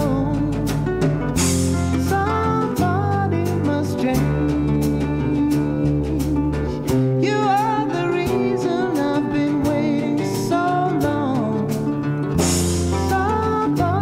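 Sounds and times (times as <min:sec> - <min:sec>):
song with guitar and singing: 0:00.0 - 0:14.0.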